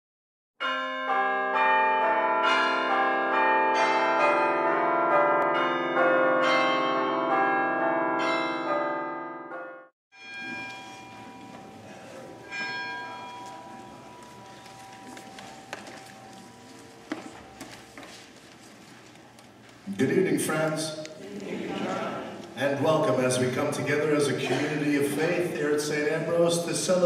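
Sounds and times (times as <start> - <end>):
church bells pealing: 0.6 - 18.2, 22.6 - 27.0
church room noise: 0.6 - 27.0.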